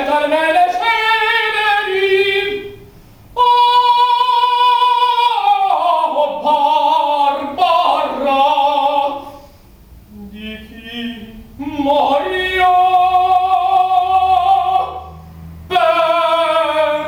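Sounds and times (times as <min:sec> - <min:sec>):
classical solo singing: 0:00.0 - 0:09.4, 0:10.1 - 0:17.0.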